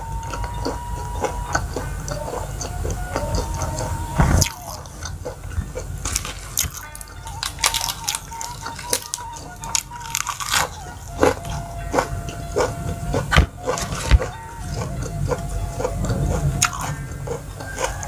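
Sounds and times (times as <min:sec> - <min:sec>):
bamboo flute music: 0:00.0 - 0:18.0
lettuce crunching when chewed: 0:00.0 - 0:18.0.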